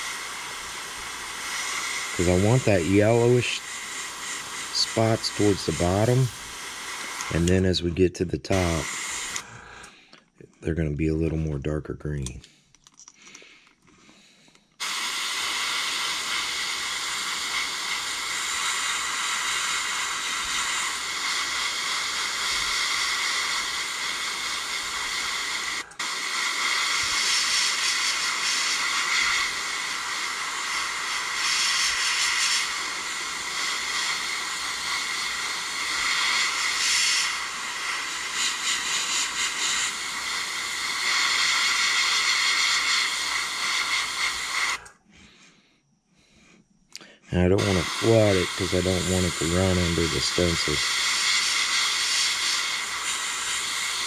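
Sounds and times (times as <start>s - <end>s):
airbrush spraying: 0.0s - 7.8s, 8.5s - 9.5s, 14.8s - 44.9s, 47.3s - 54.0s.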